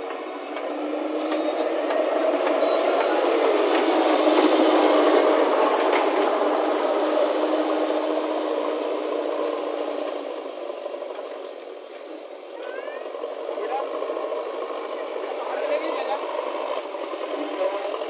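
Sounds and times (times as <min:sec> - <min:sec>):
diesel engine driving past: 0:00.0 - 0:18.0.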